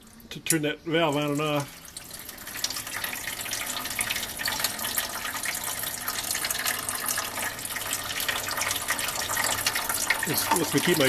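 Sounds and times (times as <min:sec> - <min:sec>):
water splashing into ice maker tray: 0:00.0 - 0:11.0.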